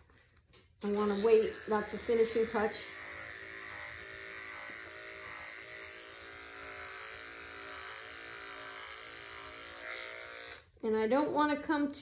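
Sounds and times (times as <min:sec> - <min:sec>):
electric clippers buzzing: 0:00.8 - 0:10.7.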